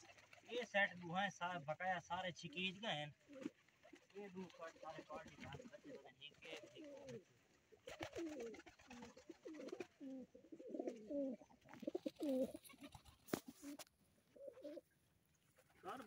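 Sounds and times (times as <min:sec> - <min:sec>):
pigeons cooing: 0:00.0 - 0:00.6, 0:02.5 - 0:15.0.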